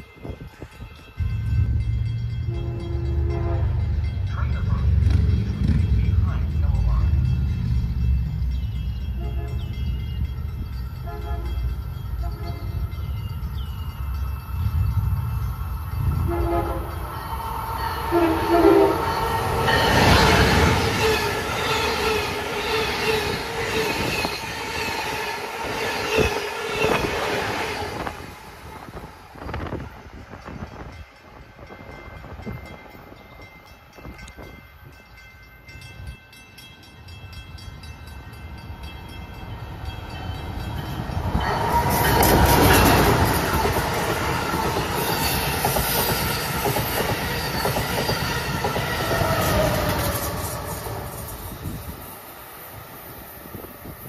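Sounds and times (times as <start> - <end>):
train passing at speed: 0.0 - 54.0
train passing on far track: 0.0 - 54.0.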